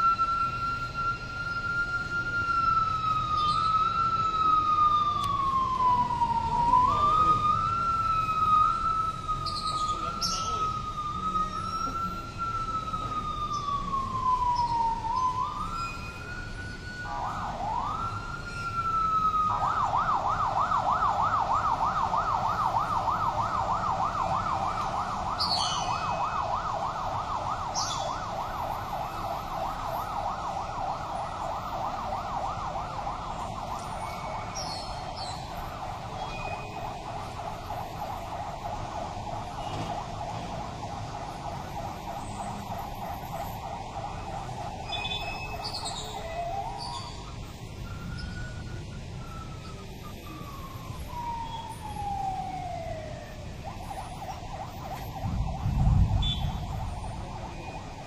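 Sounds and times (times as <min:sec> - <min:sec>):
electronic siren wailing and yelping: 0:00.0 - 0:00.9, 0:02.1 - 0:49.4, 0:50.1 - 0:58.0.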